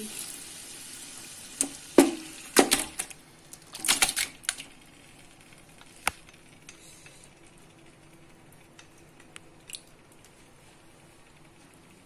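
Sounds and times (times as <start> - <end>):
faint sizzle: 0.0 - 2.6, 4.8 - 12.0.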